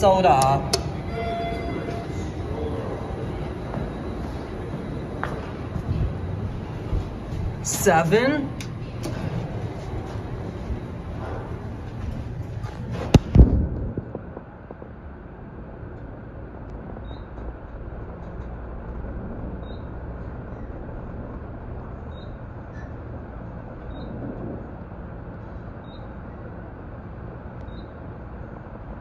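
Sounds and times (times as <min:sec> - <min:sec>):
elevator car rumbling and humming: 0:00.0 - 0:29.0.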